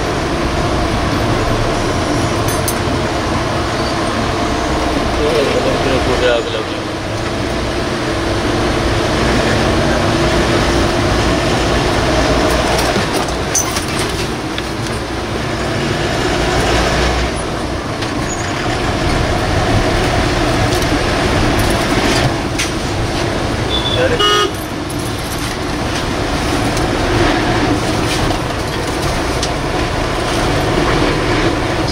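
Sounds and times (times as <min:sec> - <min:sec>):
bus engine and road noise: 0:00.0 - 0:31.9.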